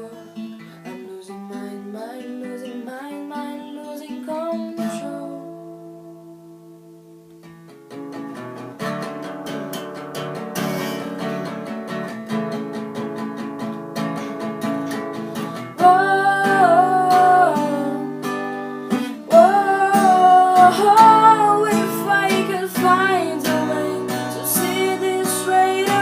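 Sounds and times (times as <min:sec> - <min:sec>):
acoustic guitar strumming chords: 0:00.0 - 0:26.0
wordless held melody line: 0:00.0 - 0:26.0.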